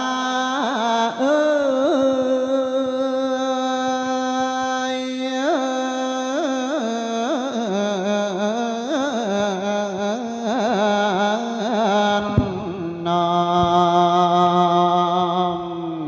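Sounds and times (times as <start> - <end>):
person singing: 0.0 - 16.0.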